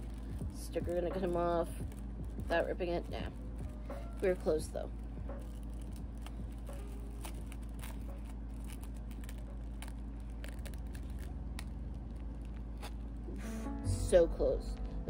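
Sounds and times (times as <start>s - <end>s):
tissue paper crinkling: 0.0s - 13.4s
steady low hum: 0.0s - 15.0s.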